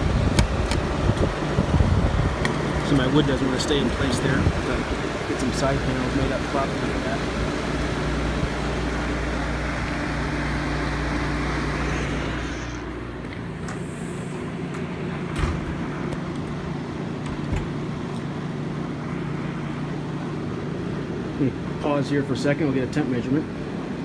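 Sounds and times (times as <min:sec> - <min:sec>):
air conditioner hum and airflow: 0:00.0 - 0:24.0.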